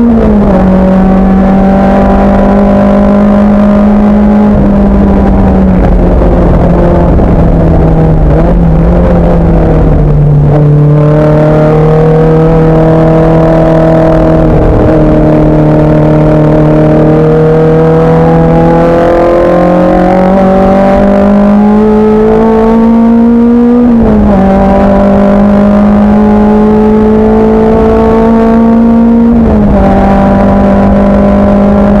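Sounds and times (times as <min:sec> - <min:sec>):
race car engine revving: 0:00.0 - 0:32.0.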